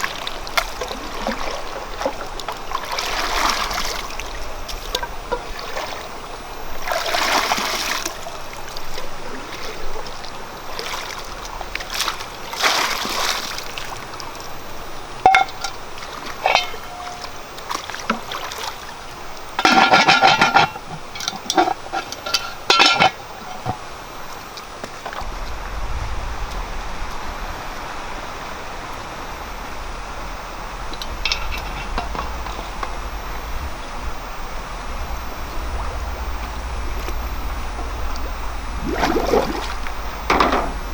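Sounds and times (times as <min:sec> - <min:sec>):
running water: 0:00.0 - 0:40.9
water splashing and sloshing: 0:00.0 - 0:40.9.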